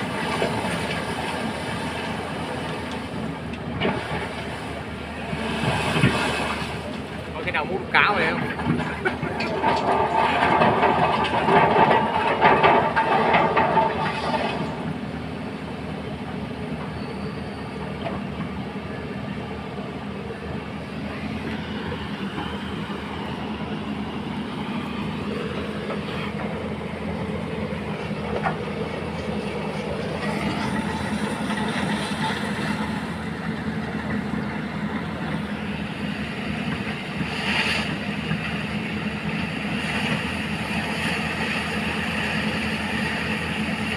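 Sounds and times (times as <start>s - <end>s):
diesel engine running: 0.0s - 43.9s
hydraulics working: 0.0s - 43.9s.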